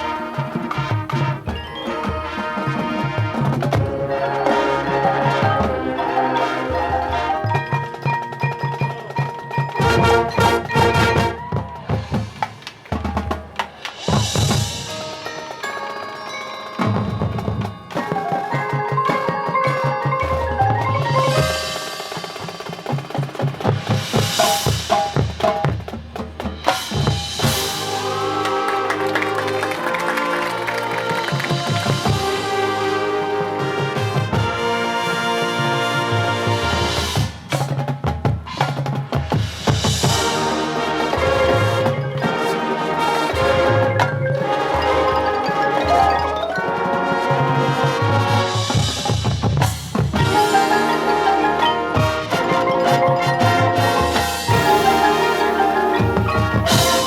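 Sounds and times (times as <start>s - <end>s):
mallet percussion ringing: 0.0s - 32.8s, 38.5s - 57.0s
marching band held chords: 0.0s - 57.0s
marching drums and cymbals: 0.0s - 57.0s.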